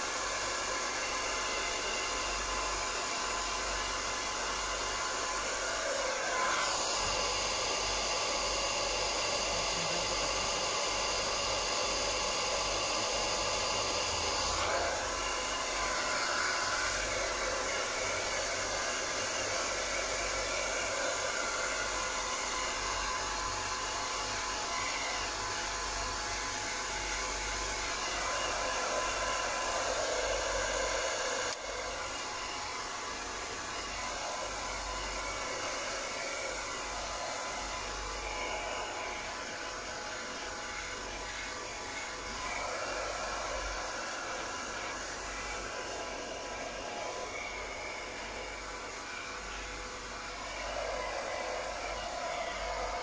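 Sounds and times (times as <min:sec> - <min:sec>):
hair dryer blowing: 0:00.0 - 0:53.0.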